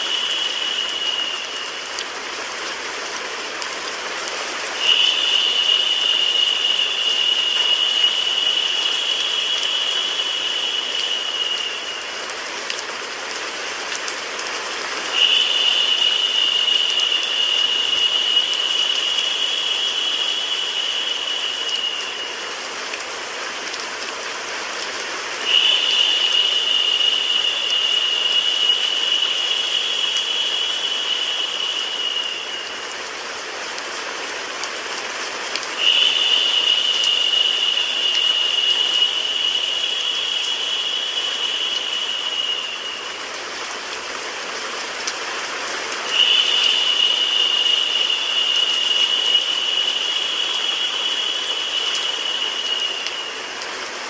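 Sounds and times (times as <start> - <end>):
loud high-pitched hiss: 0.0 - 2.6, 4.5 - 12.5, 14.8 - 23.3, 25.4 - 33.6, 35.7 - 44.6, 46.0 - 54.0
steady rain: 0.0 - 54.0
white noise hiss: 0.0 - 54.0.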